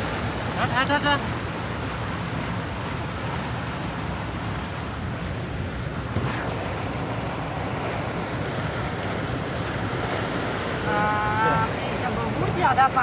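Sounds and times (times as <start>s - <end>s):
car splashing through floodwater: 0.0s - 13.0s.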